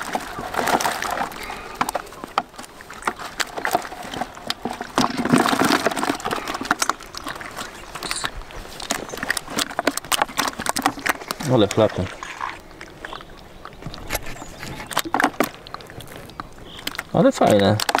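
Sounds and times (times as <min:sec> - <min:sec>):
fish splashing and flapping in water: 0:00.0 - 0:18.0.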